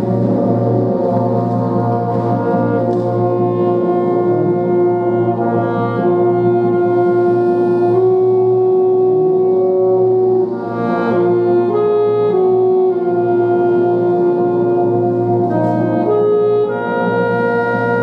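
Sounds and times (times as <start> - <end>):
brass-like held chords: 0.0 - 18.0.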